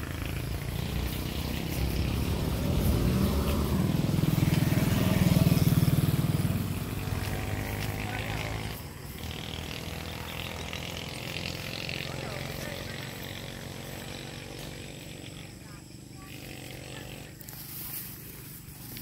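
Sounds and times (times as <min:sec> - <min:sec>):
car passing: 0:00.0 - 0:19.0
motorcycle engine passing: 0:00.0 - 0:19.0.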